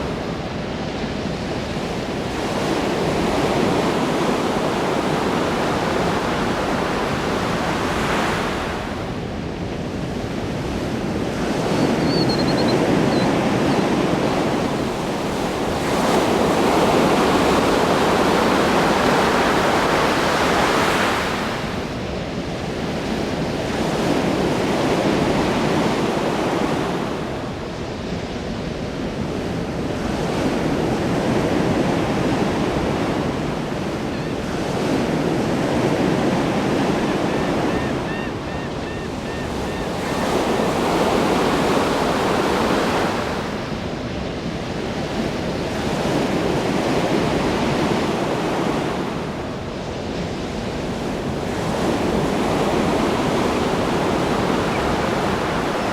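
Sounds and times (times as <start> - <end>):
ocean waves breaking: 0.0 - 28.0, 28.7 - 55.9.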